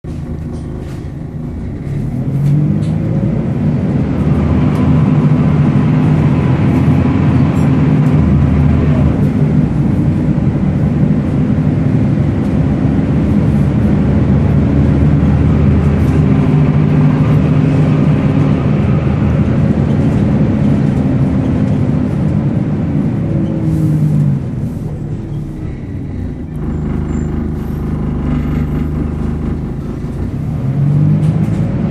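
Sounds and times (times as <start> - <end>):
bus engine under load: 0.0 - 31.9.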